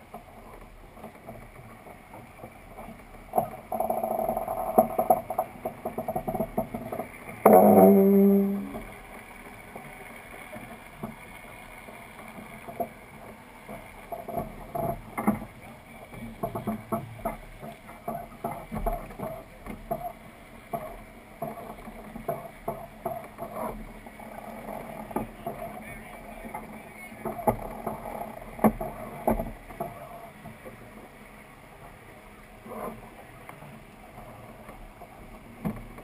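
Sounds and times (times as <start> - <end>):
wash of water and wind: 0.0 - 36.0.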